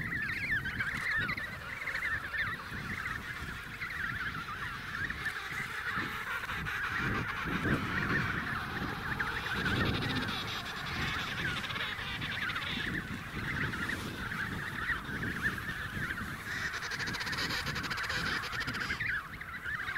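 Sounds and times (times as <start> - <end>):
penguins calling: 0.0 - 19.9.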